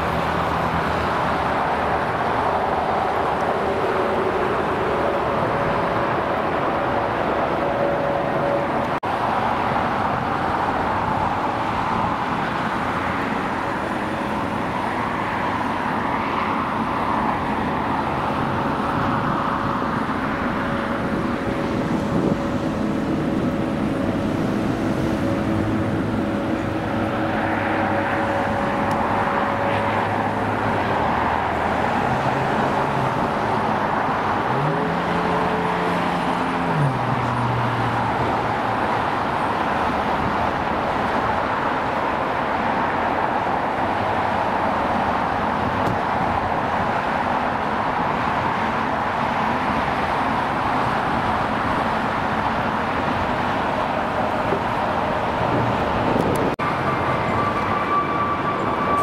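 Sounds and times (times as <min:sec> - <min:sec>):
jet engines roaring: 0:00.0 - 0:59.0
road vehicle engine: 0:00.0 - 0:59.0.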